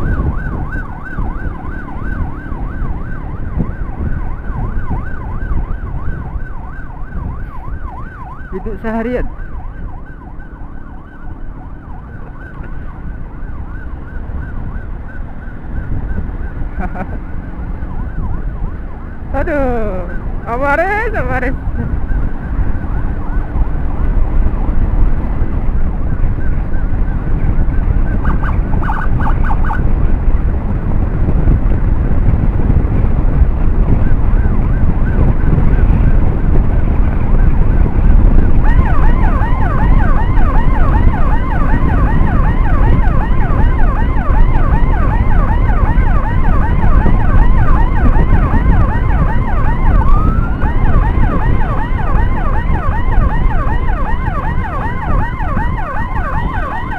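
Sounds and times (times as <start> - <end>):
emergency siren yelping: 0.0 - 30.0, 31.0 - 56.9
wind rumble: 0.0 - 56.9.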